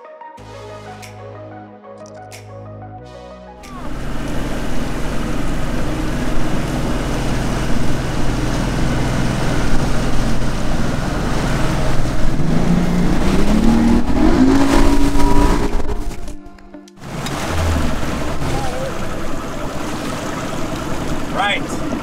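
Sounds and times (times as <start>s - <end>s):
outboard motor running: 3.6s - 22.0s.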